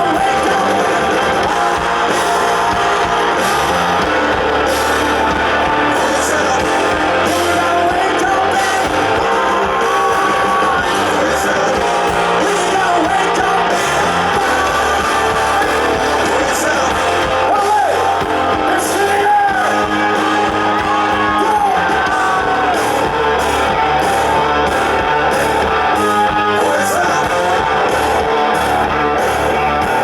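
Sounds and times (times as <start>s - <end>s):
live hard rock band: 0.0s - 30.0s
person singing or shouting: 0.0s - 30.0s.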